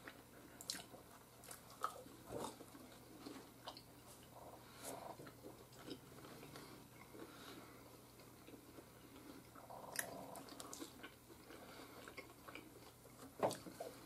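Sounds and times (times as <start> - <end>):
chewing crunchy food: 0.0 - 14.0.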